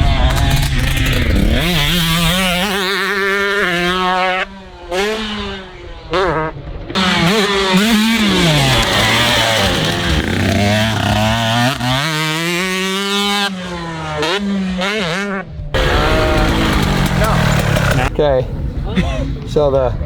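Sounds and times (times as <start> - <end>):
dirt bike engine revving: 0.0 - 18.1.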